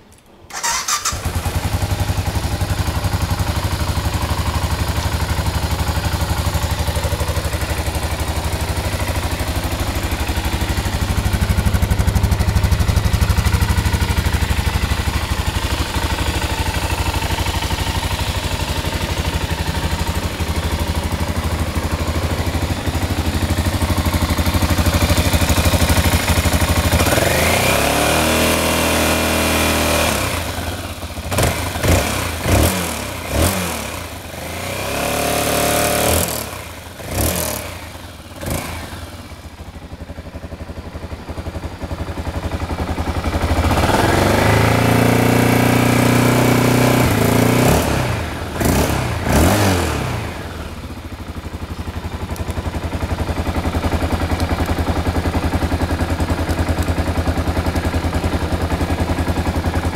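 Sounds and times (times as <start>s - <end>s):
motorcycle engine running: 0.5s - 59.9s.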